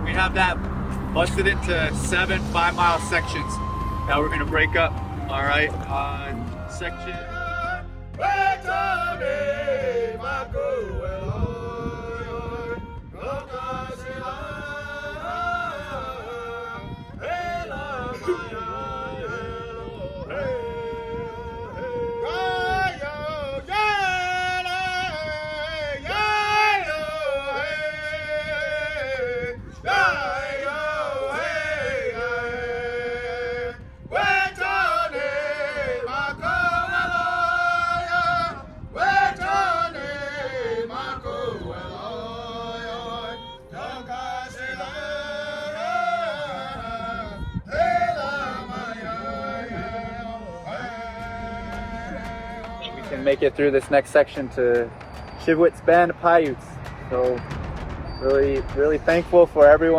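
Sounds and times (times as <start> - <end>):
man singing a chant-like song: 0.0 - 55.0.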